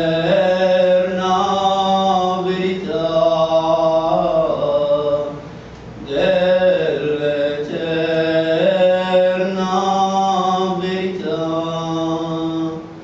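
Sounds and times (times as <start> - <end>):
man singing devotional song: 0.0 - 5.4, 6.0 - 12.9.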